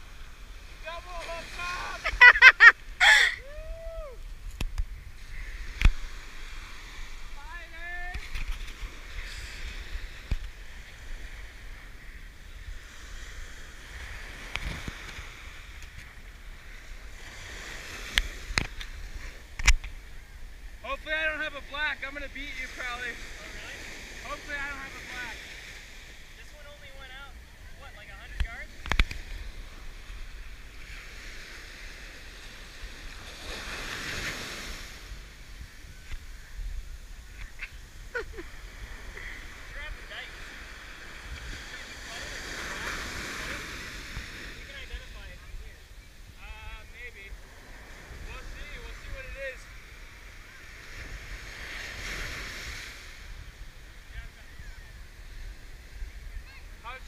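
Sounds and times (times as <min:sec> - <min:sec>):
wind rumbling on microphone: 0:00.0 - 0:20.8, 0:22.4 - 0:57.0
surf washing up a sandy beach: 0:00.0 - 0:57.0.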